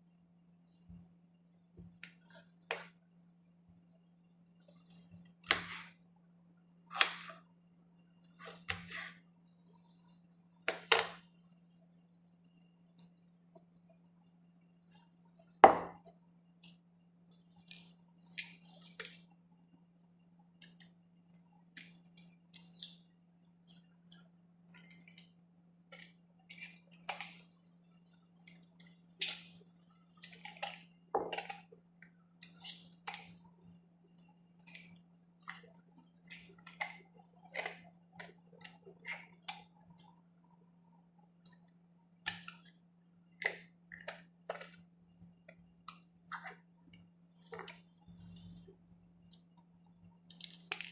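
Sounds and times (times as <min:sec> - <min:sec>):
faint low hum: 0:00.0 - 0:50.9.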